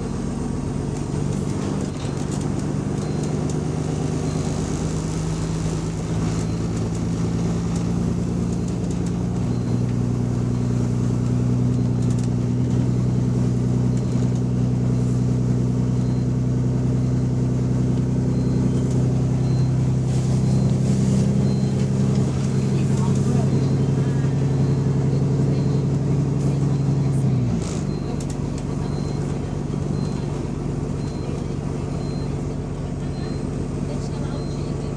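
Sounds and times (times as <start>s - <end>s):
bus engine droning: 0.0s - 34.9s.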